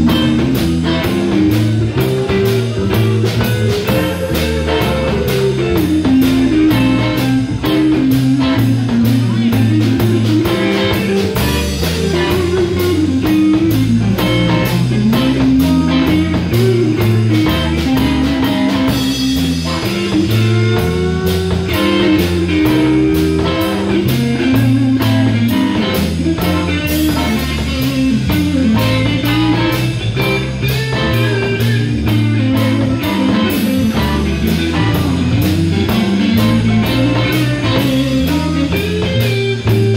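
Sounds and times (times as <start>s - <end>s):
bass guitar: 0.0s - 39.9s
drum kit cymbal beat: 0.0s - 39.9s
electric guitar: 0.0s - 39.9s
organ: 0.0s - 39.9s.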